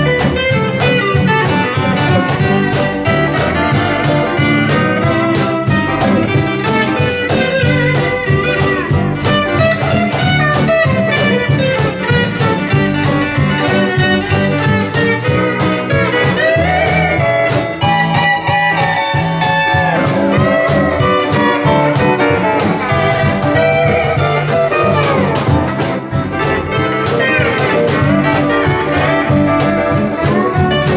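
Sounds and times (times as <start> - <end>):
bass: 0.0 - 30.9
percussion: 0.0 - 30.9
rhythm guitar: 0.0 - 30.9
steel guitar melody: 0.0 - 30.9
ukulele: 0.0 - 30.9.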